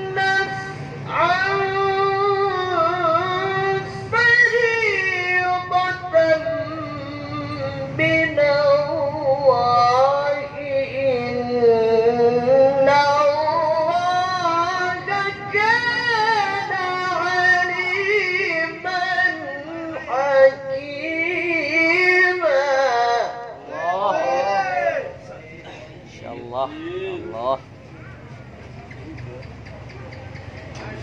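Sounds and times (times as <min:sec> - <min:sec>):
man reciting melodically: 0:00.0 - 0:27.7.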